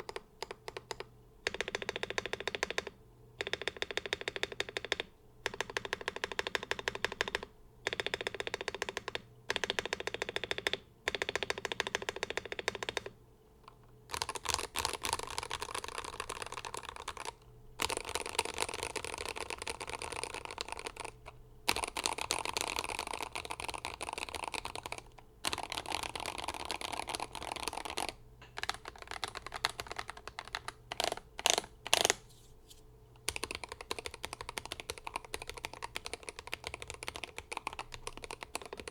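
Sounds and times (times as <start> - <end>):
fast typing on keyboard: 0.0 - 13.1, 14.1 - 32.2, 33.2 - 38.9.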